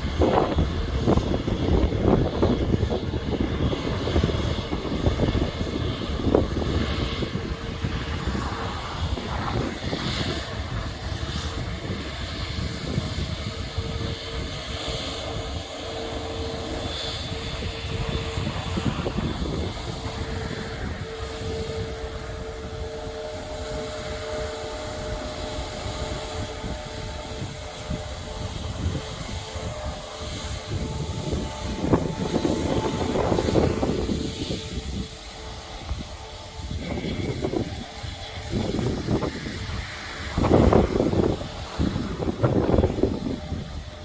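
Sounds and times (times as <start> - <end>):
faint engine whine: 0.0 - 44.0
jet engines rumbling: 0.0 - 44.0.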